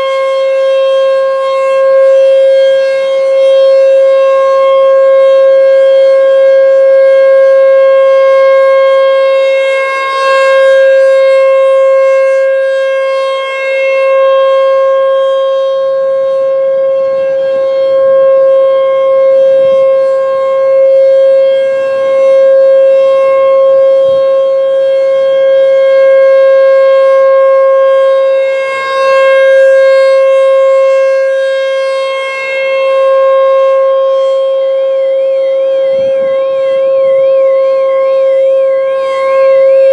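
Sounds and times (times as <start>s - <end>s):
electronic siren steady tone: 0.0s - 39.9s.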